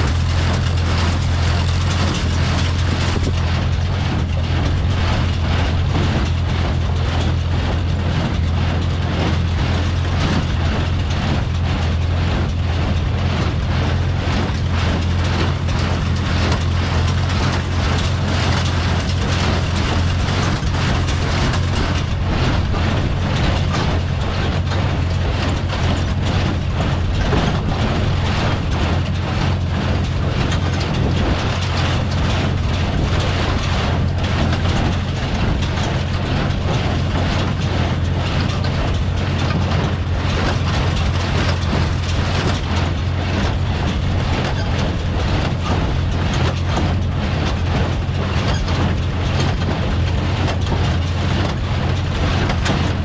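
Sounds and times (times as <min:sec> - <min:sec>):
baler clattering and knocking: 0:00.0 - 0:53.0
tractor engine running: 0:00.0 - 0:53.0.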